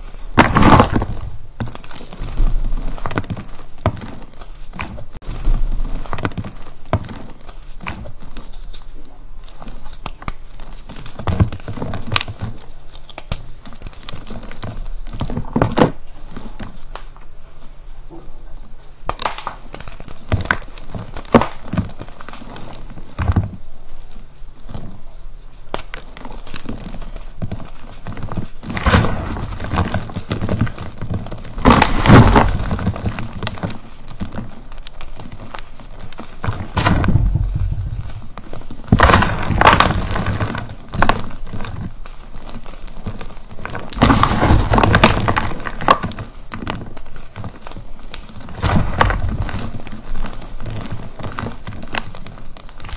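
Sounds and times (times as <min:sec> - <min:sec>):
powder pattering: 0:00.0 - 0:52.9.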